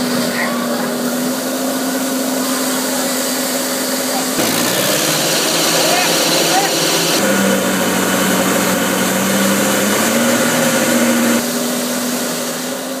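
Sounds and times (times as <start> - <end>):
tractor engine running: 0.0 - 12.1
slurry spreader hissing: 0.7 - 11.5.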